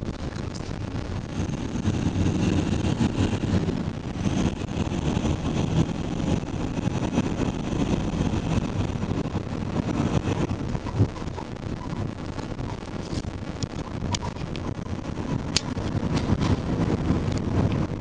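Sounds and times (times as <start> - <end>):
road and engine rumble in car: 0.0 - 18.0
wind on microphone: 0.0 - 18.0.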